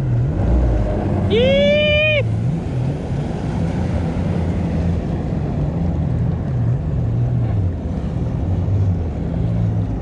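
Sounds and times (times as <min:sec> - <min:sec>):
jet ski engine running: 0:00.0 - 0:10.0.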